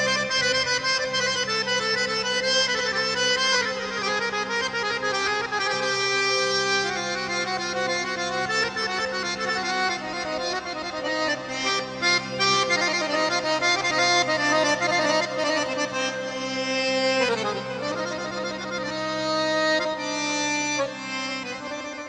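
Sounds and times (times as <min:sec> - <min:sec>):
instrumental background music: 0:00.0 - 0:22.0.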